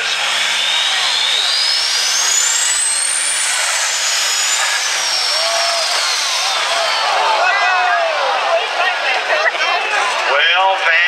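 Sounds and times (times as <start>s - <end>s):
high turbo whine: 0.0s - 11.0s
tractor diesel engine at full throttle: 0.0s - 11.0s.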